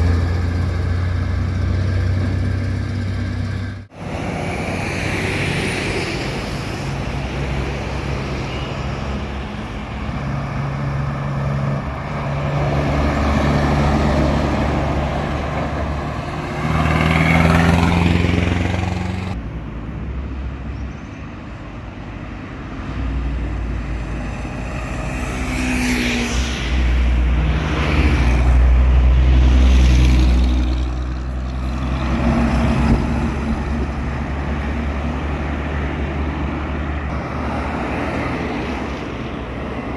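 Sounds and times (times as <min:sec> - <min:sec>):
road traffic: 0:00.0 - 0:39.9
truck engines: 0:00.0 - 0:39.9
vehicles passing: 0:00.0 - 0:39.9.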